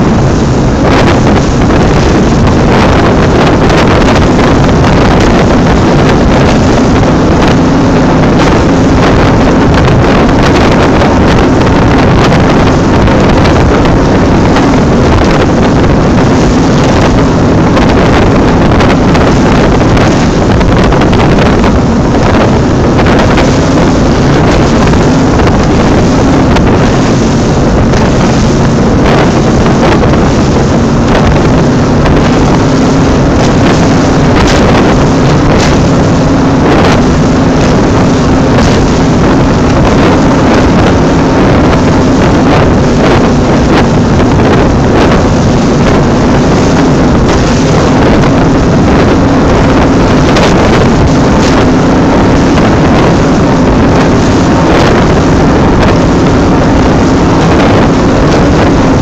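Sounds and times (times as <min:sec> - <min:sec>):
powerboat engines droning: 0:00.0 - 0:59.0
wind on microphone: 0:00.0 - 0:59.0.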